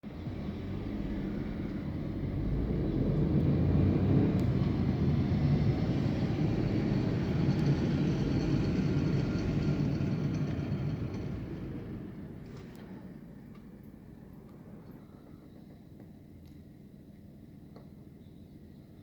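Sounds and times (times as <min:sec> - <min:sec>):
bulldozer diesel engine rumble: 0:00.0 - 0:16.3.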